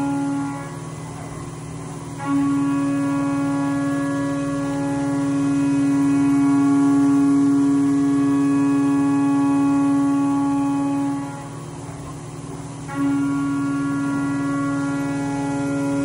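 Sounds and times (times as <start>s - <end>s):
milling machine whining: 0.0s - 16.0s.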